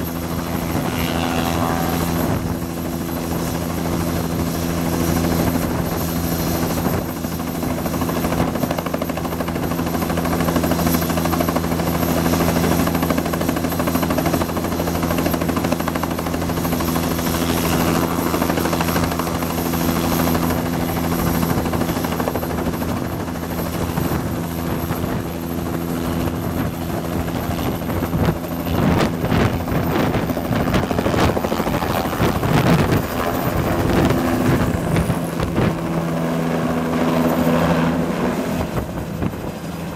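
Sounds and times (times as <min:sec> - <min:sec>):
helicopter rotor hum: 0:00.0 - 0:39.9
helicopter turbine whine: 0:00.0 - 0:39.9.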